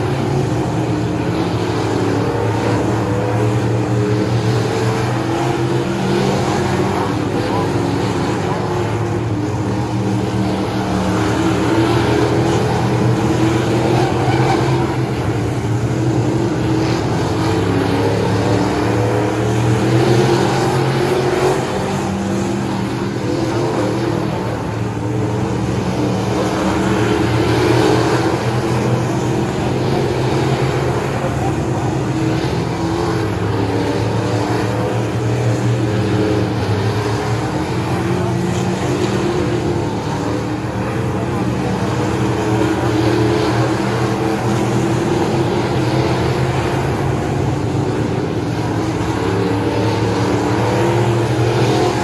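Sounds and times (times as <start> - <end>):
race car engines drone: 0.0 - 52.0.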